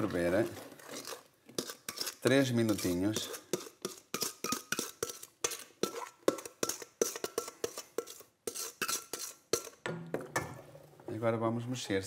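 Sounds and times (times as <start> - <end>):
spatula scraping a steel bowl: 0.0 - 9.8.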